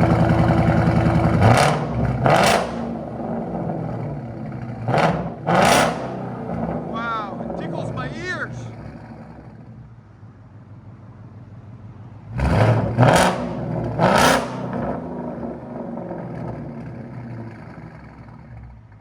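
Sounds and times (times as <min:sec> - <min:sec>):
car engine idling and revving: 0:00.0 - 0:07.9, 0:08.7 - 0:19.0.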